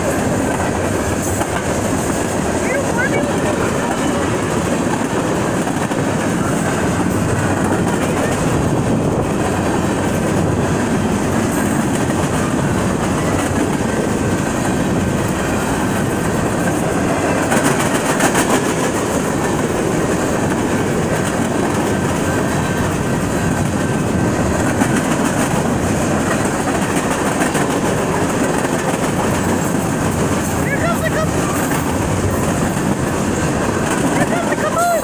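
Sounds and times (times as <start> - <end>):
clickety-clack over rail joints: 0.0 - 35.0
freight train wheels rumbling: 0.0 - 35.0.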